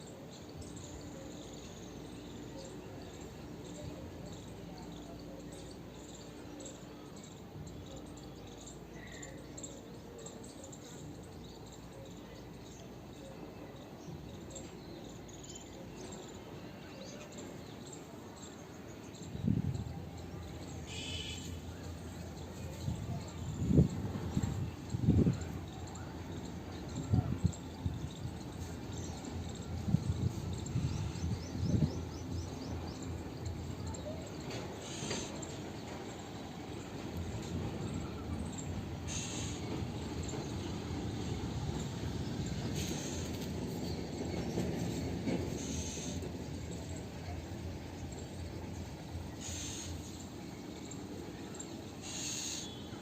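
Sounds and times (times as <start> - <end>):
small birds tweeting: 0.3 - 53.0.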